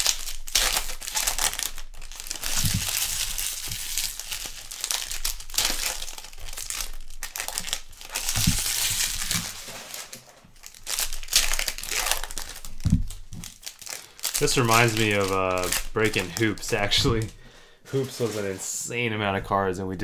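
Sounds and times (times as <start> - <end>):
plastic wrappers tearing and crinkling: 0.0 - 18.7.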